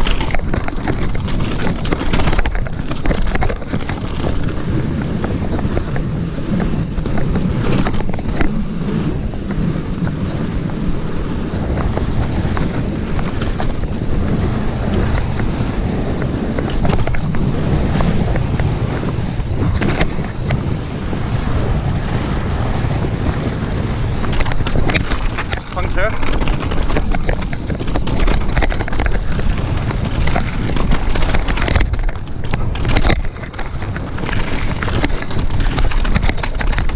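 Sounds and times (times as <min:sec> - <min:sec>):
bike rattling and knocking: 0:00.0 - 0:36.9
tyres rumbling over rock: 0:00.0 - 0:36.9
wind rushing over microphone: 0:00.0 - 0:36.9.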